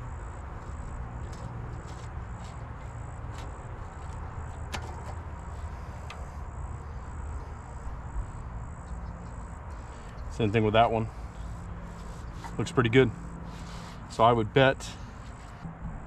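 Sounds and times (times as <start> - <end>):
insects chirping: 0.0 - 15.6.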